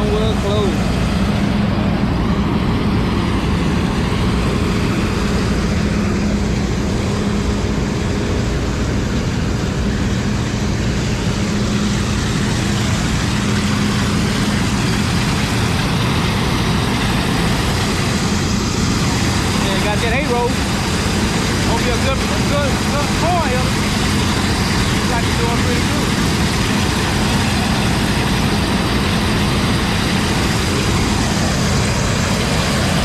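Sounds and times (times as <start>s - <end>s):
farm machine engine running: 0.0s - 33.0s.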